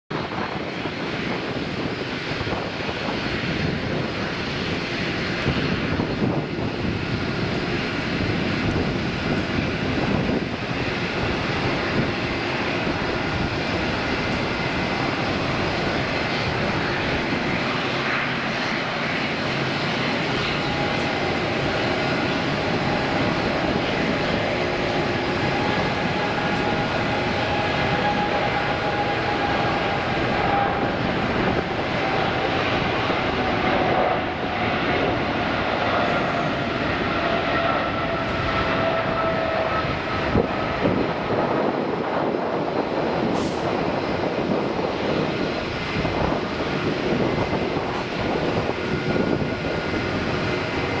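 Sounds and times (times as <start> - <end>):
jet engines at takeoff thrust: 0.1 - 51.0.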